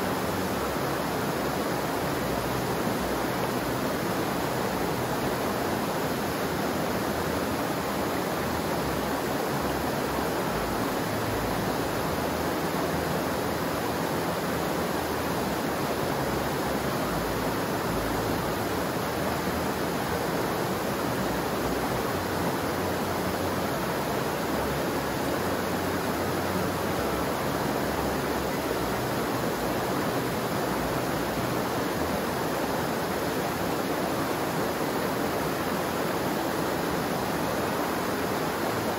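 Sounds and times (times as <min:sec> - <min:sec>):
rushing water roar: 0:00.0 - 0:38.9.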